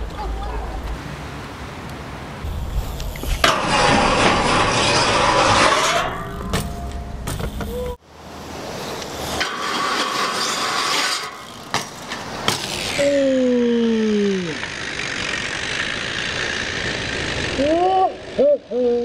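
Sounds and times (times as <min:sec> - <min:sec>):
bike tyres rolling over asphalt: 0:02.3 - 0:18.4.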